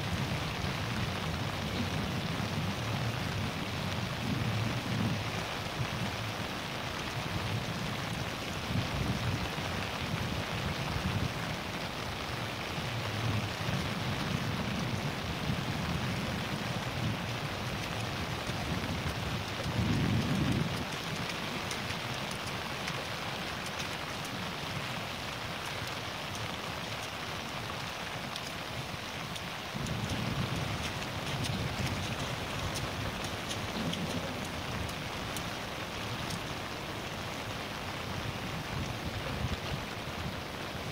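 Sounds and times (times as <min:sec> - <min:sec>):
low rumbling wind gusts: 0:00.0 - 0:40.9
steady outdoor hiss: 0:00.0 - 0:40.9.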